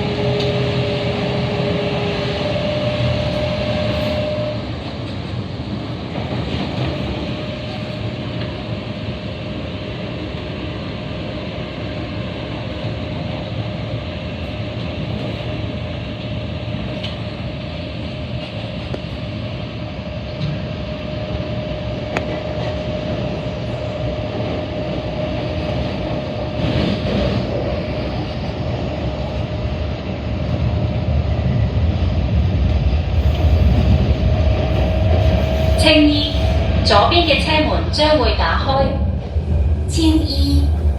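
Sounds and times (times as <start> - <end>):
thin steady train whine: 0.0 - 40.9
train wheels rumbling on rail: 0.0 - 40.9.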